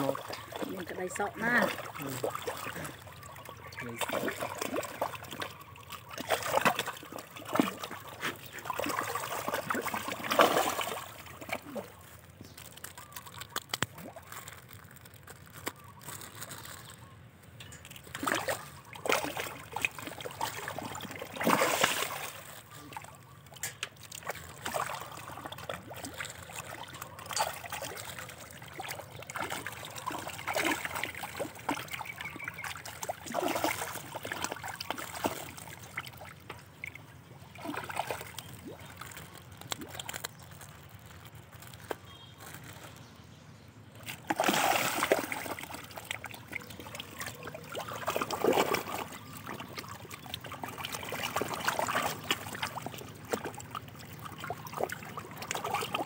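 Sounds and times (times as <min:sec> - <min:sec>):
fish splashing in water: 0:00.0 - 0:17.0, 0:17.8 - 0:43.0, 0:44.0 - 0:56.0.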